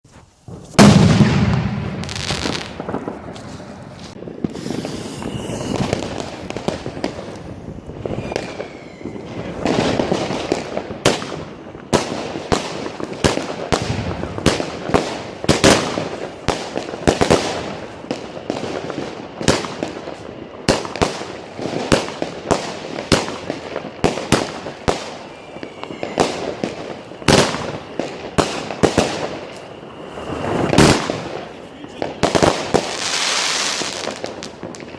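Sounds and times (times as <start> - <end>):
fireworks crackling: 0.1 - 34.9
fireworks bangs: 0.2 - 34.9.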